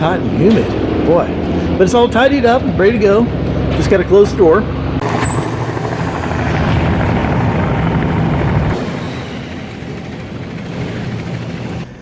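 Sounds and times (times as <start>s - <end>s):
aircraft engine running: 0.0s - 12.0s.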